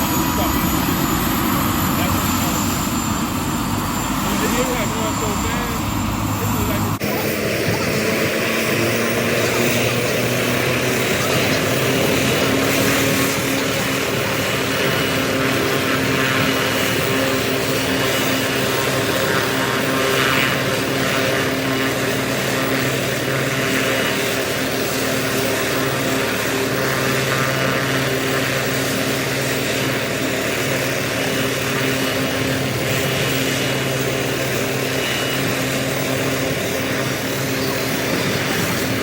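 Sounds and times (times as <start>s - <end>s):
helicopter engine and rotor drone: 0.0s - 39.0s.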